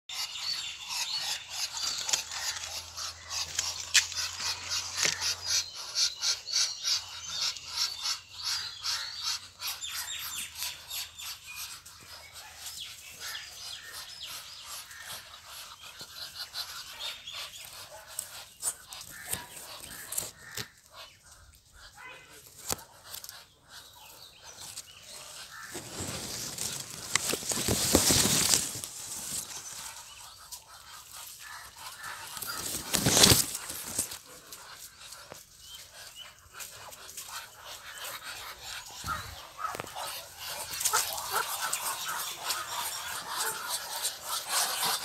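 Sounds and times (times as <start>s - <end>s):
small birds chirping: 0.1s - 45.0s.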